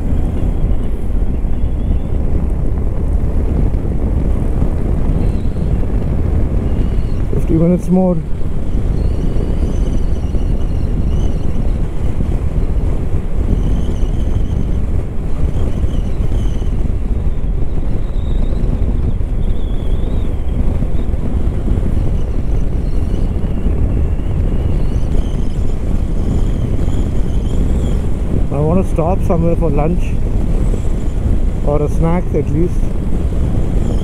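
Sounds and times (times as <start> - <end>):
motorcycle engine droning: 0.0 - 34.0
wind rushing over microphone: 0.0 - 34.0.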